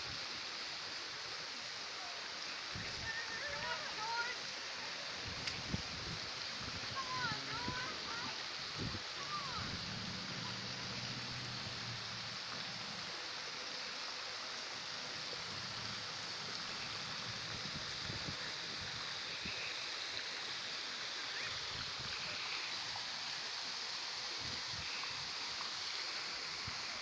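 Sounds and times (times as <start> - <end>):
fountain water splashing: 0.0 - 27.0.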